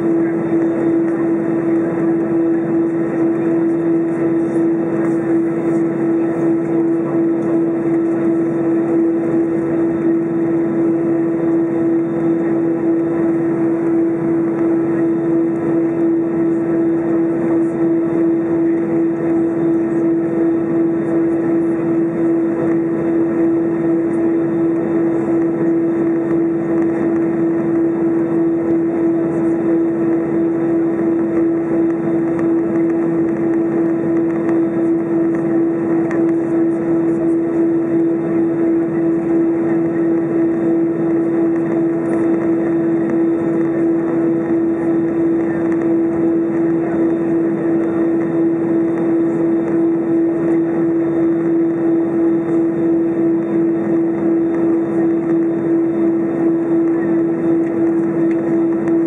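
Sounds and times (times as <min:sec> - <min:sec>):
jet engines idling in cabin: 0:00.0 - 0:59.0.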